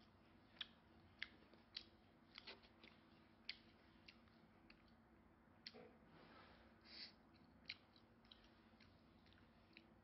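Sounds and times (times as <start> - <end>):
mouth chewing food: 0.0 - 5.8, 7.2 - 10.0
faint low hum: 0.0 - 10.0.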